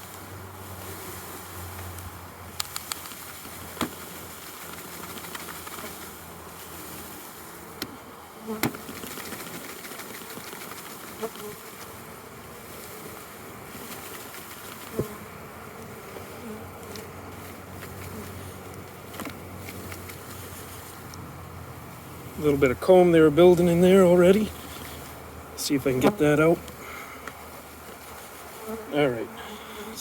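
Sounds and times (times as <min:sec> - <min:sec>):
bees buzzing: 0:00.2 - 0:30.0.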